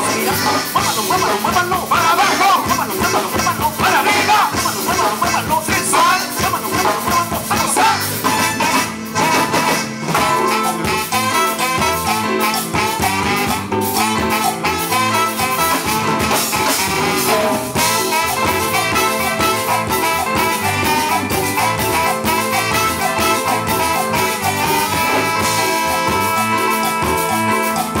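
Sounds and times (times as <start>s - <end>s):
congas: 0.0s - 28.0s
drum kit dance beat: 0.0s - 28.0s
electric guitars: 0.0s - 28.0s
trumpet and saxophone: 0.0s - 28.0s.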